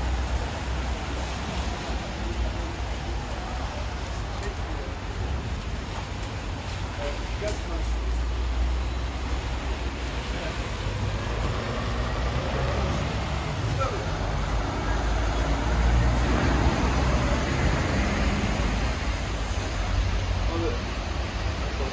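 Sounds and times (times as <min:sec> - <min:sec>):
cars passing on wet road: 0:00.0 - 0:21.9
low traffic rumble: 0:00.0 - 0:21.9
rain falling on street: 0:00.0 - 0:21.9.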